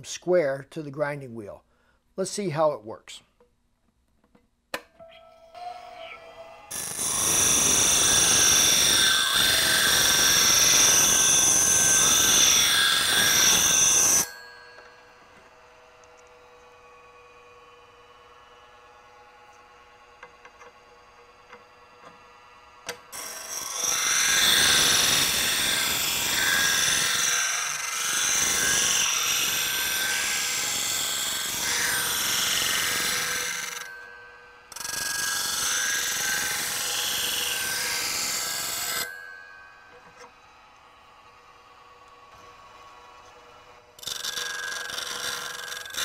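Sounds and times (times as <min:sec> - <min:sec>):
grinder hum: 0:05.2 - 0:46.0
bench grinder grinding hiss: 0:06.0 - 0:16.8, 0:19.7 - 0:46.0.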